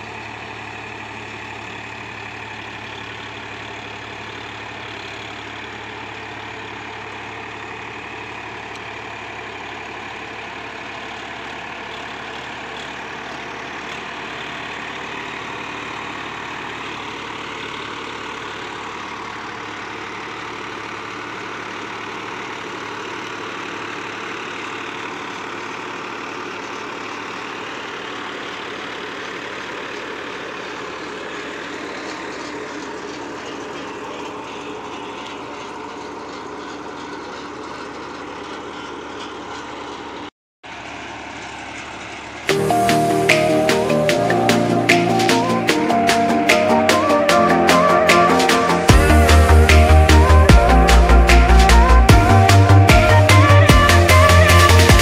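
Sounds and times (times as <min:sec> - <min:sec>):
seeder rotor working soil: 0:00.0 - 0:55.0
tractor diesel engine under load: 0:00.0 - 0:55.0.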